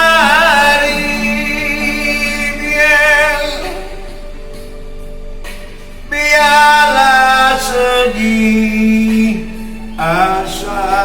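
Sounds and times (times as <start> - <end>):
elderly man singing a ballad: 0.0 - 4.4, 6.1 - 11.0
instrumental backing music: 0.0 - 11.0.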